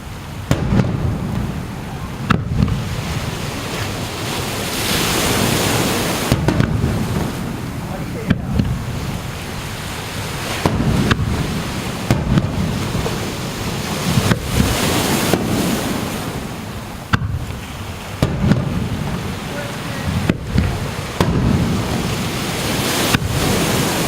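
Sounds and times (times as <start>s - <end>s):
fireworks bursting: 0.0s - 24.0s
surf: 0.0s - 24.0s.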